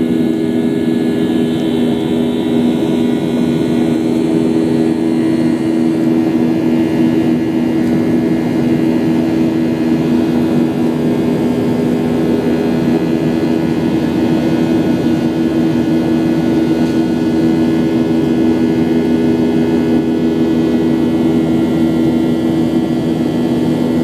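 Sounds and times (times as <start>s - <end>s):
jet engines droning: 0.0s - 24.0s.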